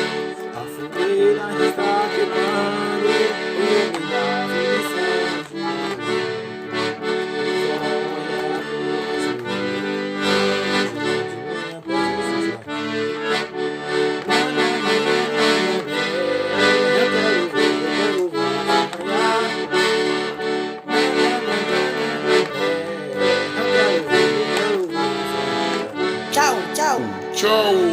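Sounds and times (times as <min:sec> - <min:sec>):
accordion melody over chords: 0:00.0 - 0:27.9.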